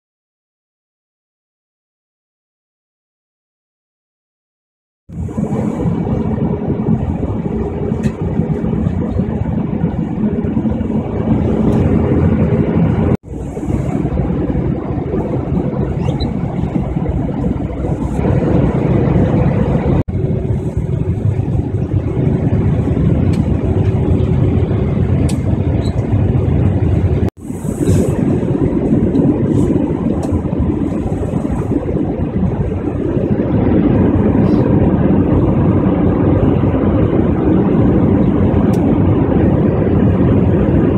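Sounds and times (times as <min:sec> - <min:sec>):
airliner cabin engine roar: 0:05.1 - 0:40.9.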